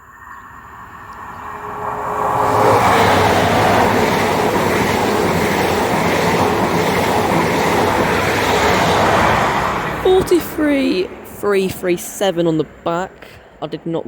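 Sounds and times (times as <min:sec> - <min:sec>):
train passing: 0:00.0 - 0:14.0.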